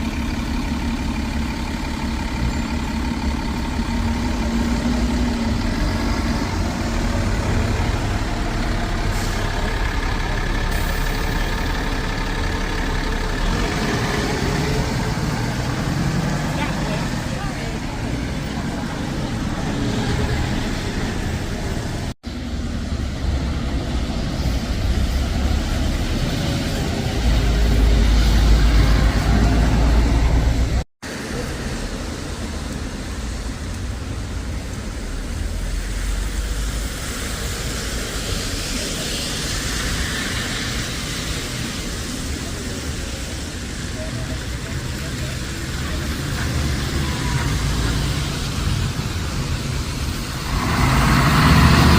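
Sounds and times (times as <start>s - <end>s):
road traffic: 0.0s - 51.9s
vehicle engine rumbling: 0.0s - 51.9s.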